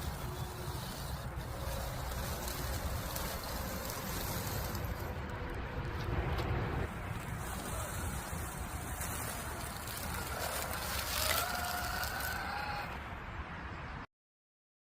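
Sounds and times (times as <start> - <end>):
rc car rough rumbling: 0.0 - 6.0, 6.8 - 13.0.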